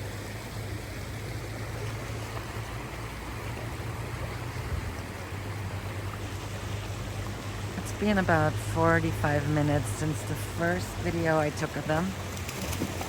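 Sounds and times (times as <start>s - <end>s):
low steady hum: 0.0s - 13.0s
river flowing: 0.0s - 13.0s.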